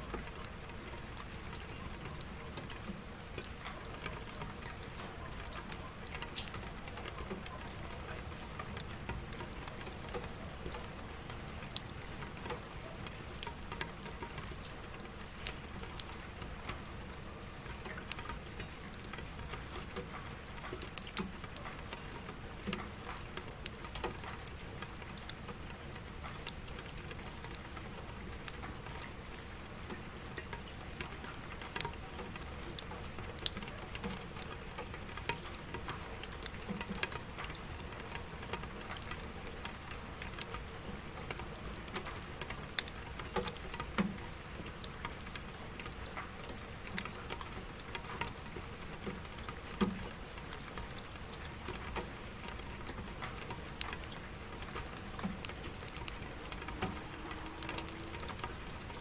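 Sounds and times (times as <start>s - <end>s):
rain falling steadily: 0.0s - 59.0s
raindrops ticking on a surface: 0.0s - 59.0s.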